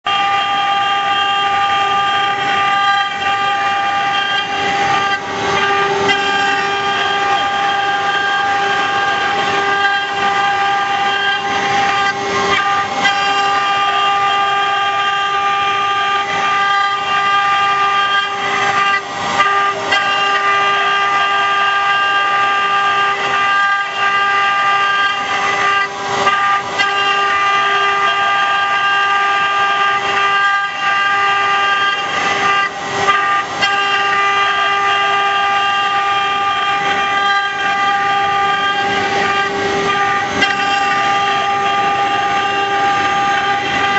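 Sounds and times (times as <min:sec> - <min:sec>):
wood cutting noise: 0:00.0 - 0:43.9
spindle high whine: 0:00.1 - 0:43.9.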